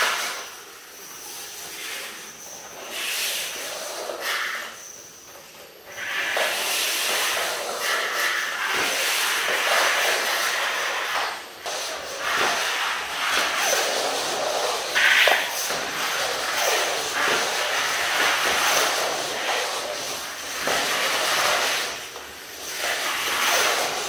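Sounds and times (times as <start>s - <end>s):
electromagnetic toy train hissing: 0.0s - 24.0s.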